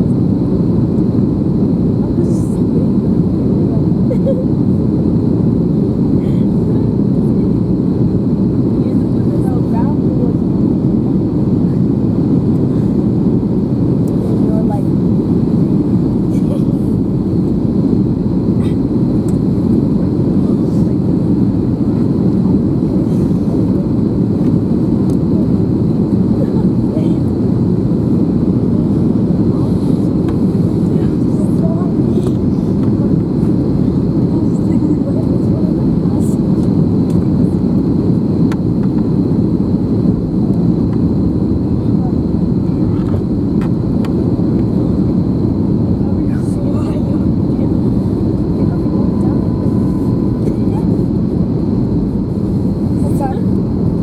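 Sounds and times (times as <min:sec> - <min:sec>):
airplane cabin roar: 0:00.0 - 0:54.0.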